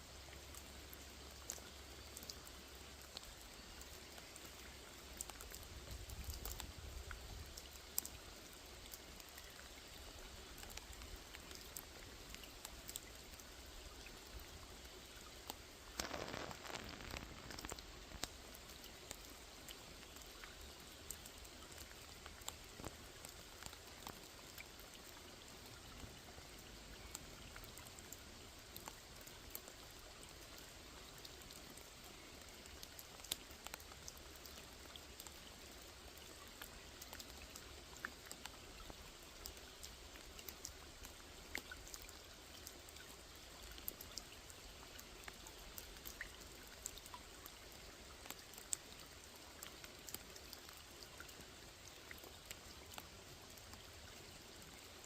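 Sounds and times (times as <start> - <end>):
rain falling on a lake: 0.0 - 55.0.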